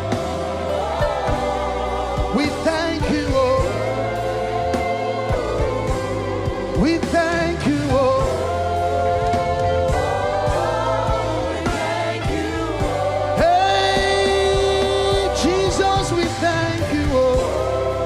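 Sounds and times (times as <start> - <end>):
band with steady bass: 0.0 - 18.0
voices singing gospel song: 0.0 - 18.0.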